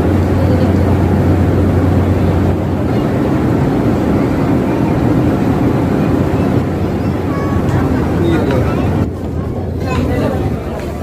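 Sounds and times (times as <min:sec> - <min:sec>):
constant rushing noise: 0:00.0 - 0:11.0
ship engine hum: 0:00.0 - 0:11.0.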